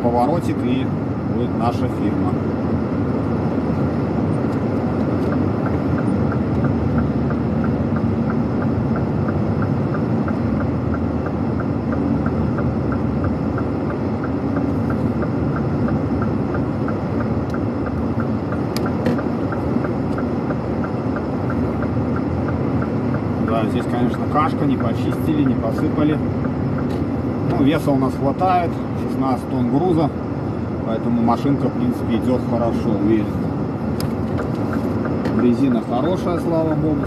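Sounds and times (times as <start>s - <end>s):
truck engine and road drone: 0.0s - 37.0s
turn signal ticking: 0.1s - 37.0s.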